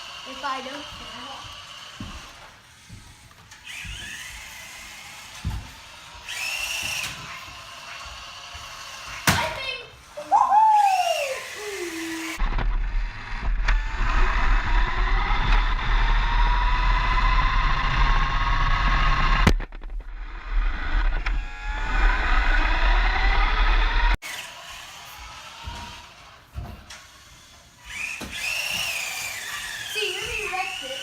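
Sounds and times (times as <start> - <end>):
toy car electric motor whining: 0.0 - 9.3, 10.0 - 19.5, 20.7 - 31.0.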